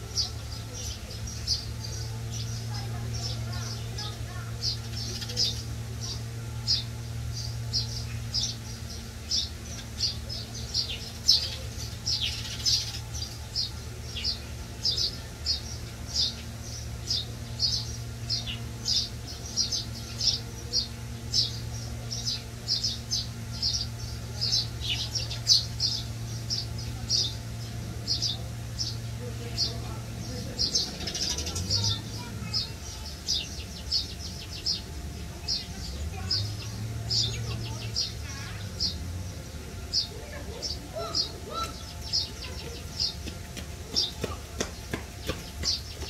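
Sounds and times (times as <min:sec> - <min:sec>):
constant low hum: 0:00.0 - 0:46.0
small birds chirping: 0:00.0 - 0:46.0.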